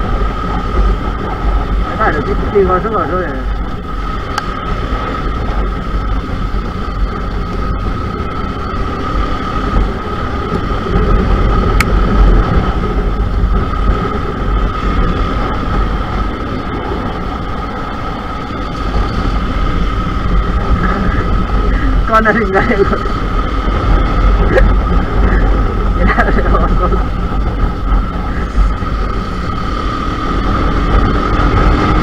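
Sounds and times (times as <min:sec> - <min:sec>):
motorcycle engine running: 0:00.0 - 0:32.0
steady high whine: 0:00.0 - 0:32.0
wind rushing over microphone: 0:00.0 - 0:32.0.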